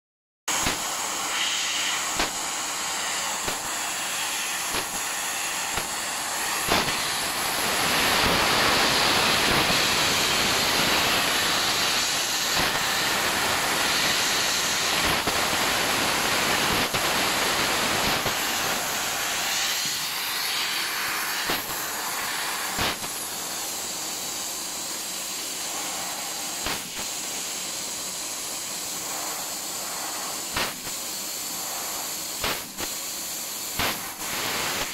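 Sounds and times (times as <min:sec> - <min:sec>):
laser cutter gas jet hissing: 0:00.5 - 0:34.9.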